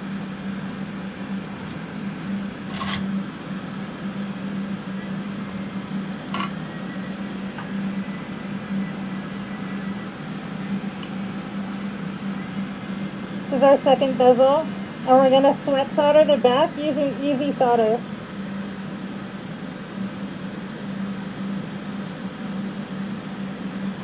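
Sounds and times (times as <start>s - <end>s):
fume extraction fans humming: 0.0s - 24.0s.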